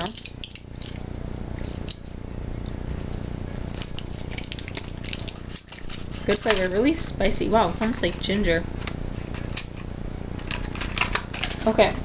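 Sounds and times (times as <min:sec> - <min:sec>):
packaging crackling: 0:00.0 - 0:02.0, 0:02.6 - 0:11.9
steady low hum: 0:00.0 - 0:12.0.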